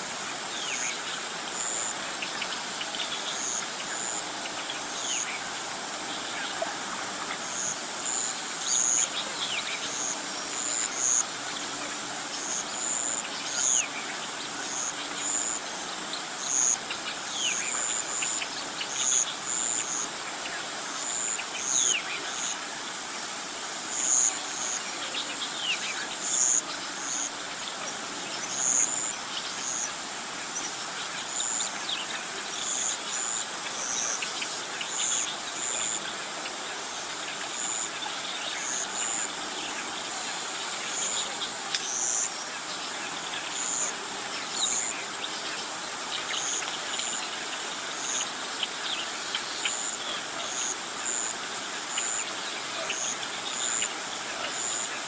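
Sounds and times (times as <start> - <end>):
birds and insects chirping: 0.0 - 55.0
steady hiss: 0.0 - 55.0.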